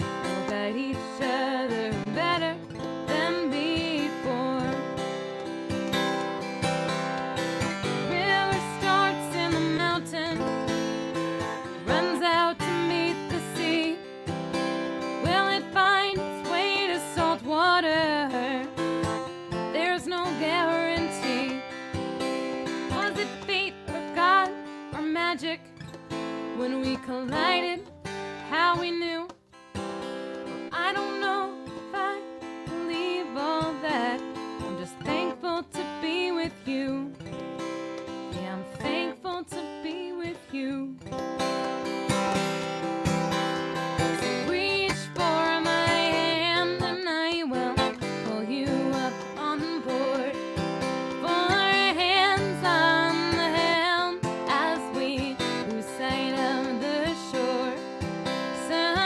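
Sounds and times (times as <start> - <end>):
woman singing: 0.0 - 29.4, 30.4 - 42.6, 43.4 - 59.0
acoustic guitar strumming: 0.0 - 59.0.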